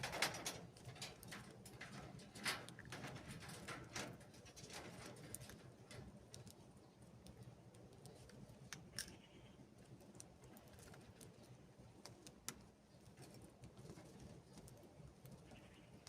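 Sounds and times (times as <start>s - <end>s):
birds pecking at seed: 0.0s - 16.0s.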